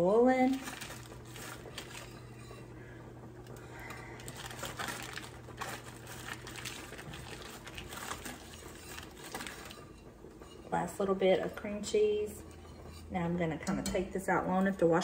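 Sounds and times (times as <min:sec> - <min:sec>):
low steady hum: 0:00.0 - 0:15.0
whisk scraping a pot: 0:00.0 - 0:15.0.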